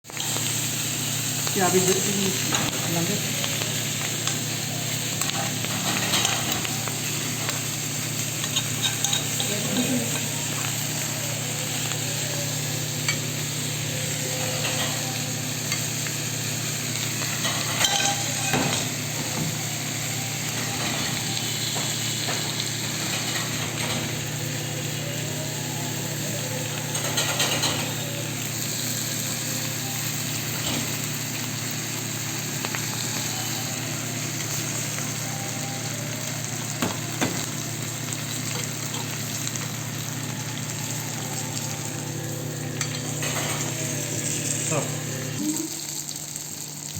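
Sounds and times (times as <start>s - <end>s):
chicken sizzling in hot oil: 0.0s - 46.9s.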